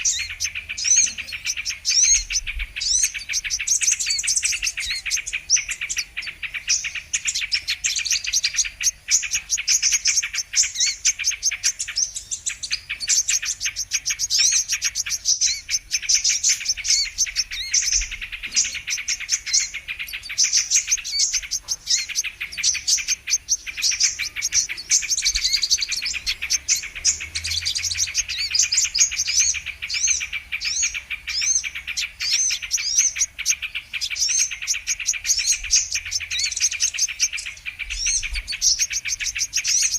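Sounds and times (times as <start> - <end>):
sunbirds singing and twittering: 0.0 - 39.9.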